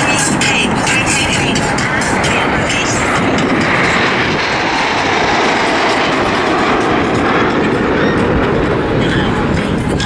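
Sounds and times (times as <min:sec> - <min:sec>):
jets flying overhead: 0:00.0 - 0:10.0.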